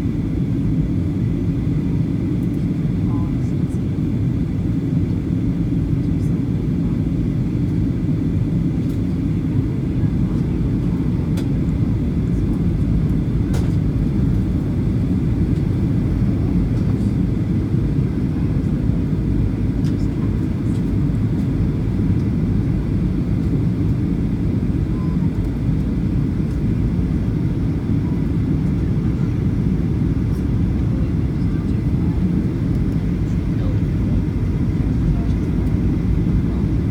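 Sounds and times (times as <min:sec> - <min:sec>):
airplane cabin roar: 0:00.0 - 0:36.9.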